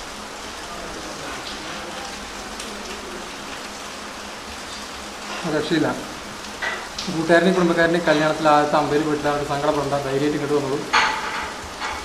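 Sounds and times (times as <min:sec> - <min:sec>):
rain-like hiss: 0:00.0 - 0:12.0.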